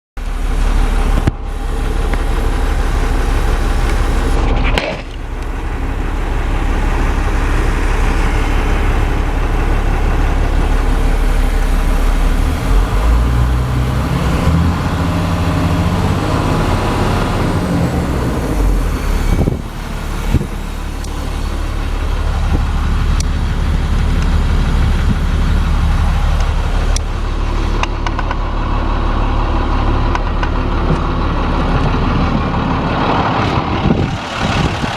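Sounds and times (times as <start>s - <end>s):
diesel truck engine idling: 0.2s - 34.9s.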